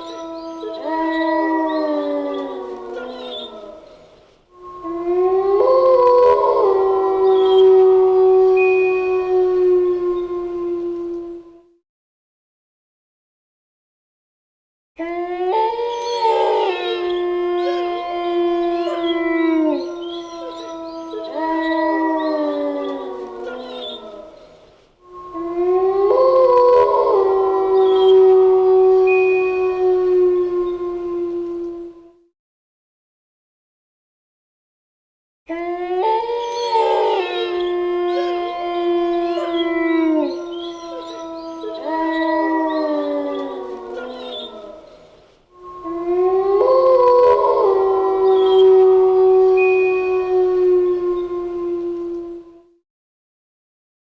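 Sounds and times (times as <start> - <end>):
wolves howling: 0.0 - 11.7, 15.0 - 32.3, 35.5 - 52.8.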